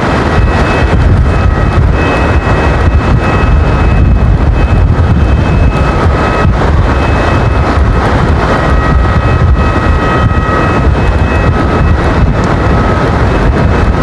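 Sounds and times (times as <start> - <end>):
wind buffeting microphone: 0.0 - 14.0
kite flutes whistling: 0.4 - 8.0, 8.6 - 13.9.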